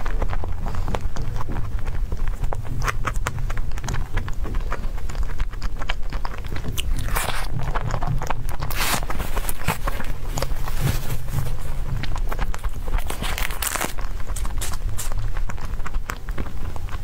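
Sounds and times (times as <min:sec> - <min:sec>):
chewing soft dessert: 0:00.0 - 0:17.0.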